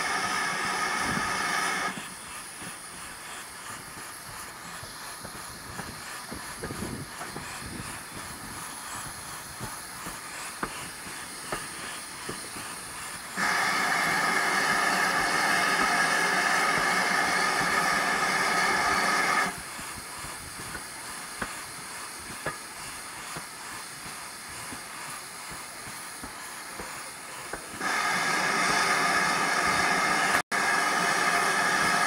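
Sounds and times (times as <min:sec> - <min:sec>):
steam blast from locomotive: 0:00.0 - 0:32.0
train running noise: 0:00.0 - 0:32.0
wheels clicking over rail joints: 0:00.6 - 0:27.9.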